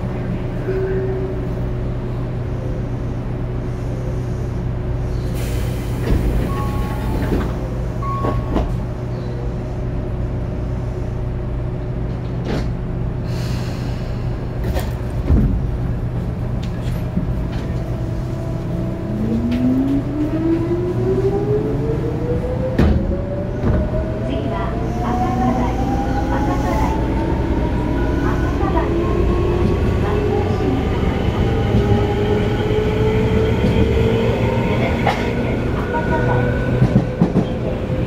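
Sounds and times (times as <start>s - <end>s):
train running rumble and hum: 0.0s - 38.0s.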